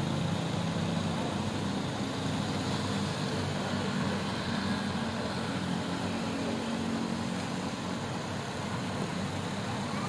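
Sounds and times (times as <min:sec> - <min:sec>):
diesel engines droning: 0:00.0 - 0:10.0.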